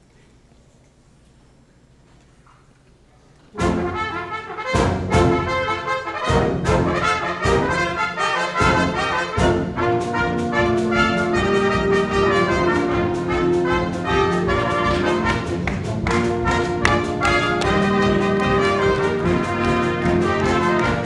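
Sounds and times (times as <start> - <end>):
trumpets playing a tune: 3.5 - 21.0.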